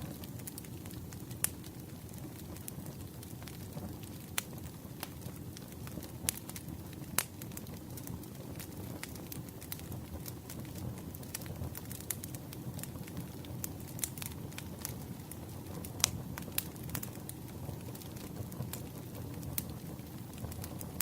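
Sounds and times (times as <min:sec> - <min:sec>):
campfire crackling and popping: 0:00.0 - 0:21.0
flames rushing: 0:00.0 - 0:21.0.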